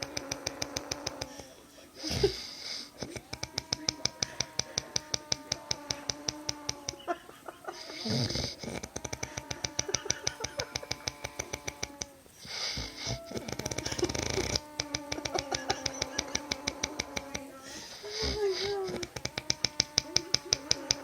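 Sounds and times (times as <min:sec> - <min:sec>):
man snoring: 0:00.0 - 0:07.0, 0:07.7 - 0:21.0
breathy hiss: 0:00.0 - 0:21.0.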